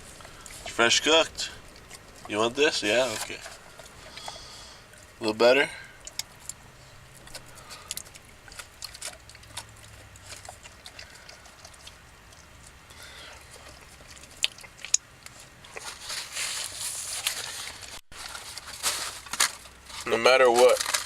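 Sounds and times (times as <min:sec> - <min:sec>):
dog chewing on bone: 0:00.0 - 0:17.8.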